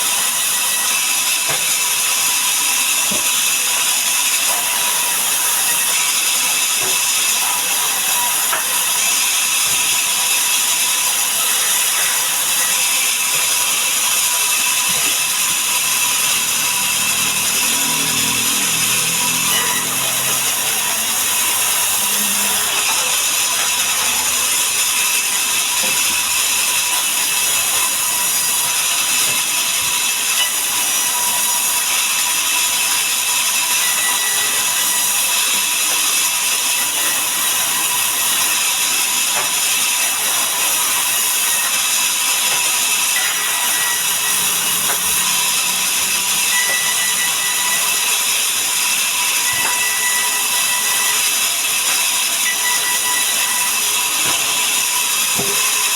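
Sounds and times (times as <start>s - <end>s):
sawmill saw cutting timber: 0.0s - 55.9s.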